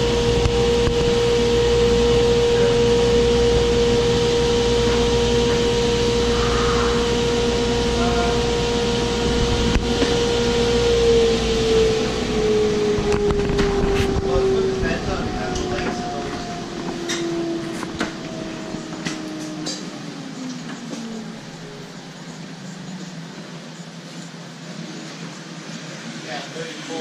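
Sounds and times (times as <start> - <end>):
table saw whining: 0.0 - 23.3
dust collector air rushing: 0.0 - 27.0.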